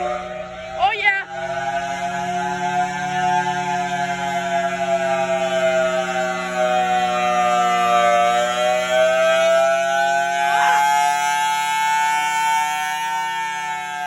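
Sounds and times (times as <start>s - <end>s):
tornado siren wailing: 0.0s - 14.0s.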